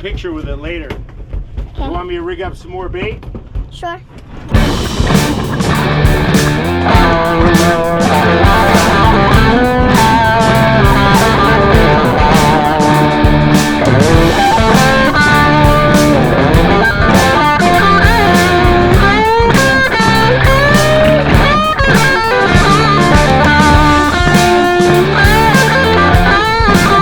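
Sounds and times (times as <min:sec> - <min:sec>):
rock music with electric guitar: 0:04.5 - 0:27.0
steady drum beat: 0:04.5 - 0:27.0.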